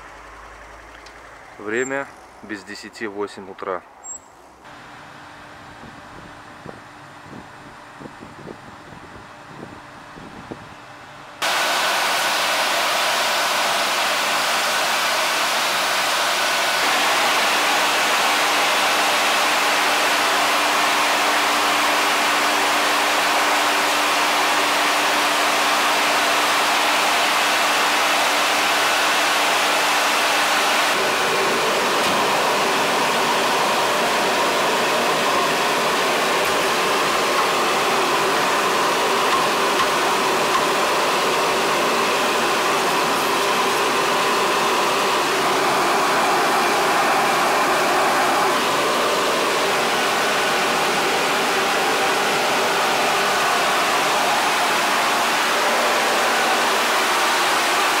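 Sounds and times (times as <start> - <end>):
loud steady rushing noise: 11.4 - 58.0.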